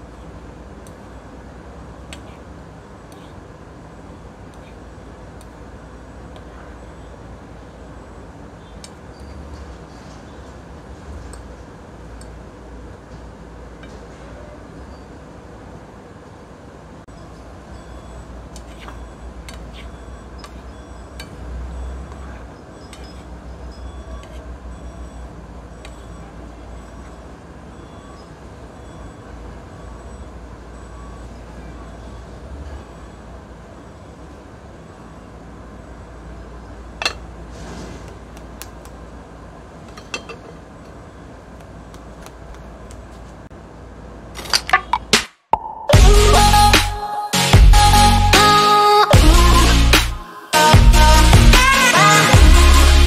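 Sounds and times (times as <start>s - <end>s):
low steady background noise: 0.0s - 45.2s.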